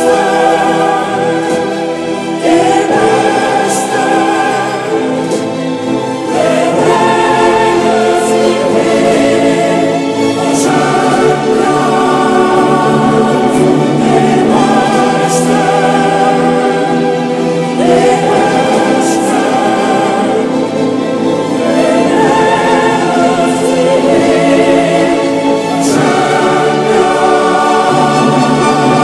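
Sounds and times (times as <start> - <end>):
choir singing held chords: 0.0 - 29.0.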